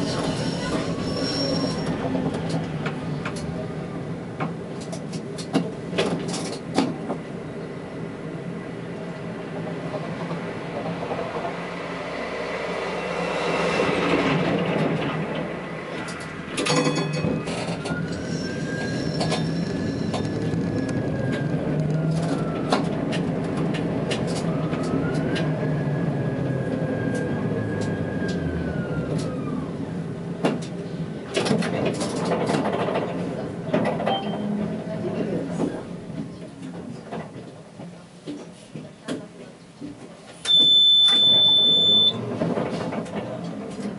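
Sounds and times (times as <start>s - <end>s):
tram wheels rumbling on rails: 0.0s - 41.5s, 42.1s - 43.9s.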